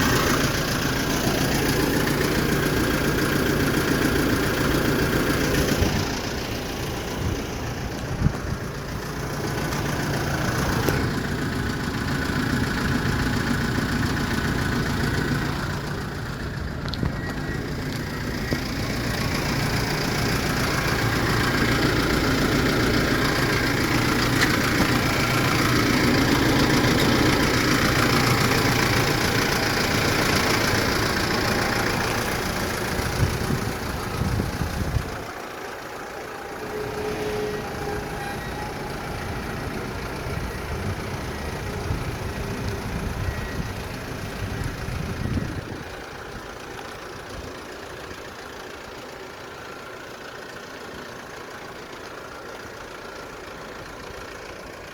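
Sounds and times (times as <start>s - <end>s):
truck engine idling: 0.0s - 54.9s.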